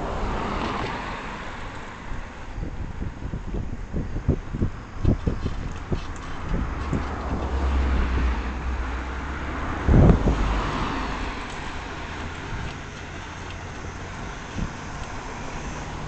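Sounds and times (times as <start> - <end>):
passing car rushing hiss: 0.0 - 4.6, 6.8 - 16.0
vehicle road and wind rumble: 0.0 - 16.0.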